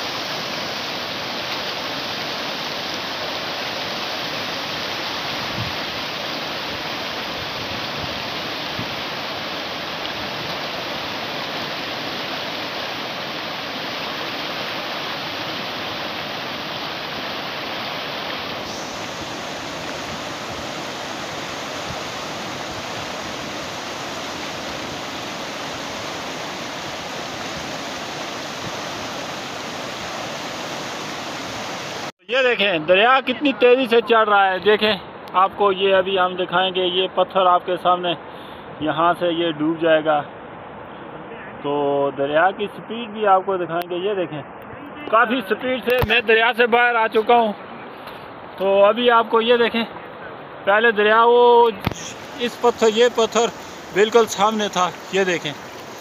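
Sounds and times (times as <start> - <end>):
river rushing over rocks: 0.0 - 38.2, 42.2 - 56.0.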